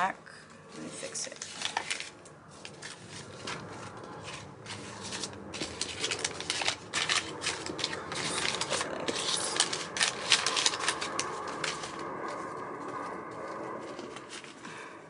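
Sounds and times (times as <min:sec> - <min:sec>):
paper banknotes rustling: 0:00.9 - 0:14.6.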